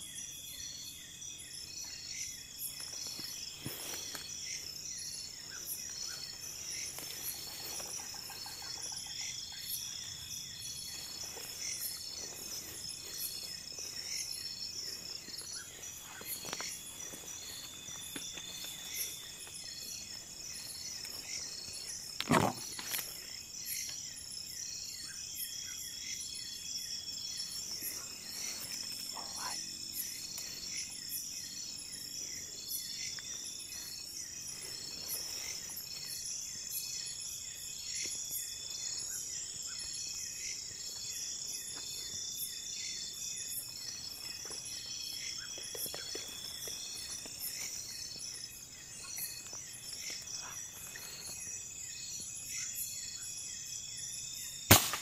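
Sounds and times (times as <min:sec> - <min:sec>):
crickets and insects buzzing: 0:00.0 - 0:55.0
pulsing insect trills: 0:00.0 - 0:55.0.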